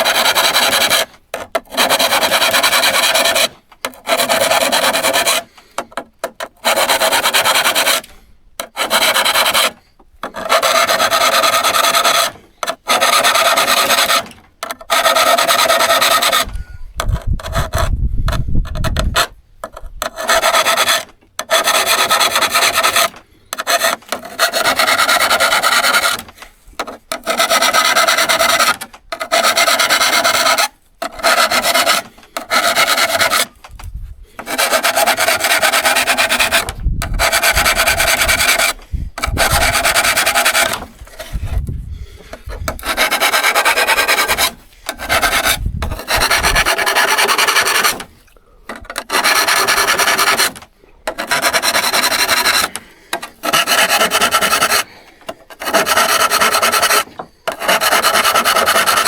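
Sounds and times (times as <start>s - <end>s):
hand saw scraping strokes: 0.0s - 59.0s.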